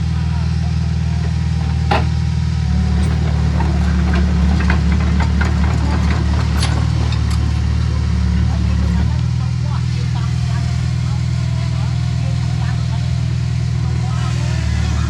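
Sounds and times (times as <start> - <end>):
bulldozer diesel engine: 0.0 - 15.0
metal clanks: 1.1 - 15.0.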